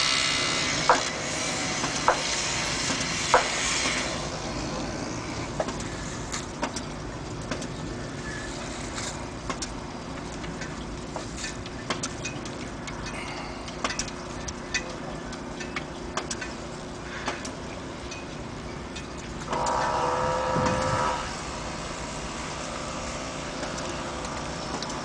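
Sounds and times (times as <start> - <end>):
background machine noise: 0.0 - 25.0.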